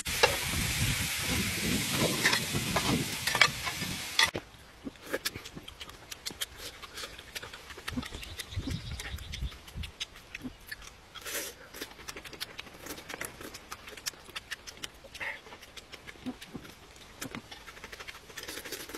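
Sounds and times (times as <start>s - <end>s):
man biting and chewing food: 1.2s - 18.9s.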